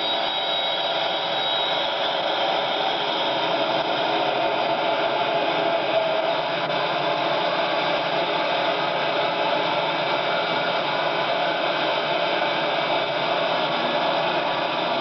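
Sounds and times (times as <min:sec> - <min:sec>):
engine room machinery running: 0:00.0 - 0:15.0.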